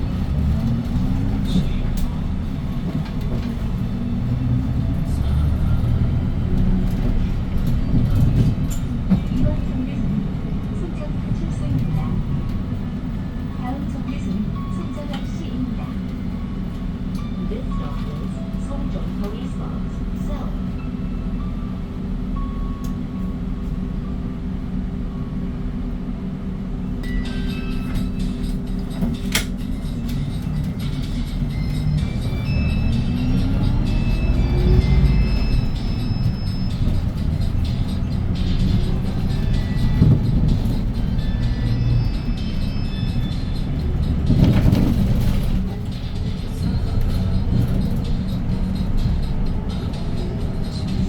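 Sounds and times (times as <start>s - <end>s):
bus engine rumble: 0.0s - 51.0s
road noise: 0.0s - 51.0s.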